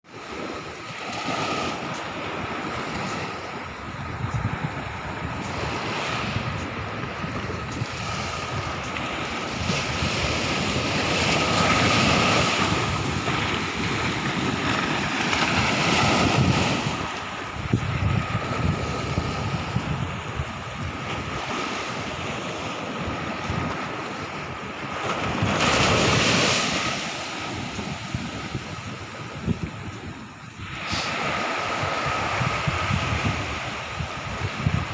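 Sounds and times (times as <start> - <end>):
sea waves rushing: 0.1 - 34.9
wind buffeting microphone: 0.1 - 34.9.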